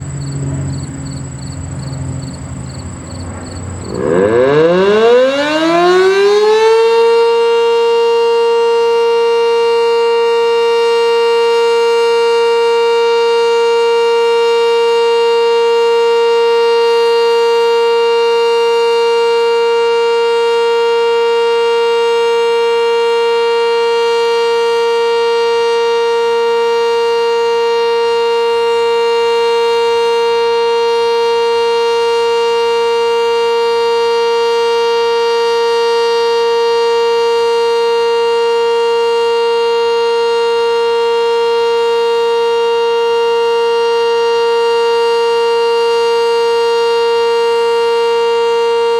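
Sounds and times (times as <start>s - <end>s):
warning siren steady tone: 0.0s - 48.9s.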